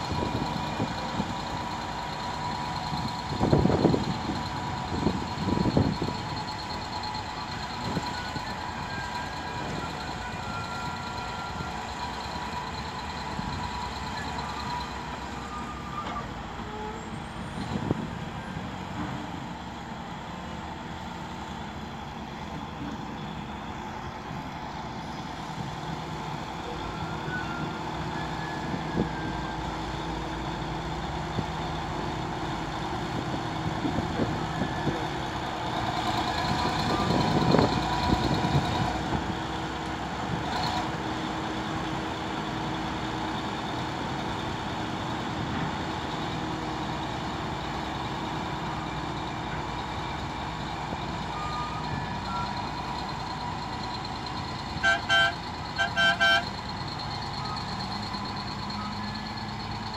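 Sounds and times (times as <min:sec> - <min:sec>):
bulldozer engine running: 0:00.0 - 0:59.9.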